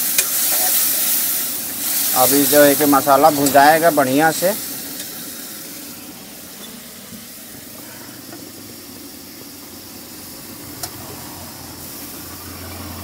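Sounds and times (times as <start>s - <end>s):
masala sizzling in hot oil: 0.0s - 13.0s.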